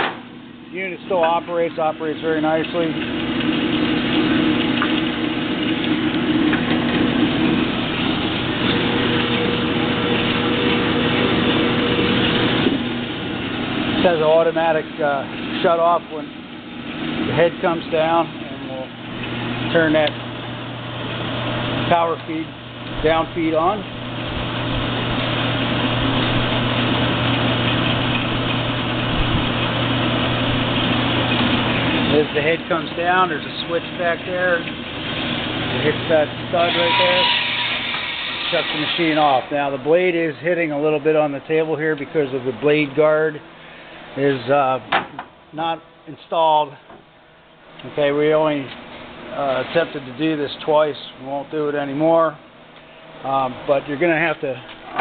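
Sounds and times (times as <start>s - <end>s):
band saw motor hum: 0.0s - 44.9s
higher mechanical tone: 0.0s - 55.0s.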